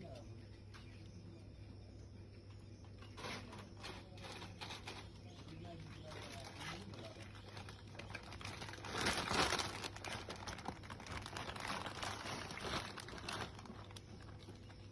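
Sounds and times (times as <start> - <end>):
rustling and crinkling: 2.9 - 14.9.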